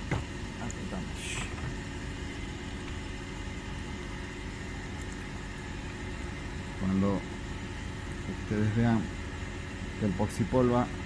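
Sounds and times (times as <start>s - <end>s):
low hum and rumble: 0.0s - 11.0s.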